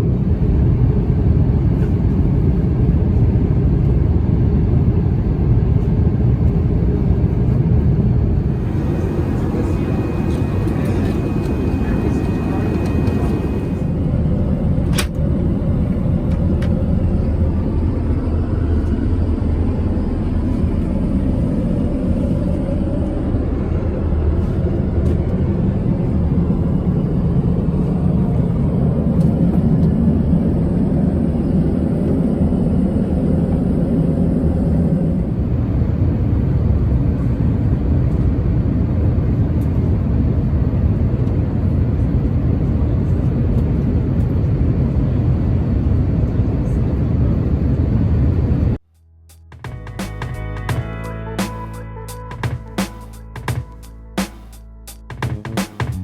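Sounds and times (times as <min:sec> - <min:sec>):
aircraft cabin engine roar: 0:00.0 - 0:48.8, 0:49.5 - 0:56.0.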